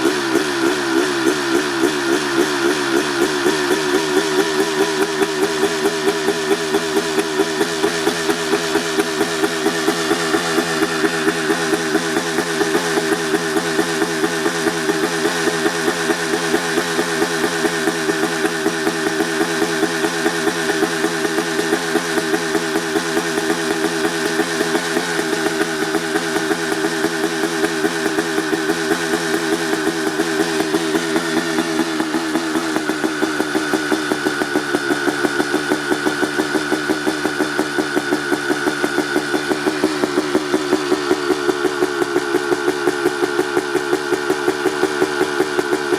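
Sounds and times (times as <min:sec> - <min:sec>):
two-stroke engine idling: 0:00.0 - 0:45.9.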